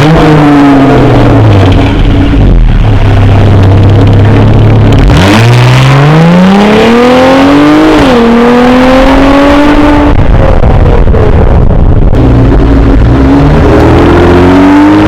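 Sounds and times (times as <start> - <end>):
car engine idling: 0.0 - 8.3, 9.0 - 14.5
car accelerating with rising exhaust: 0.0 - 15.0.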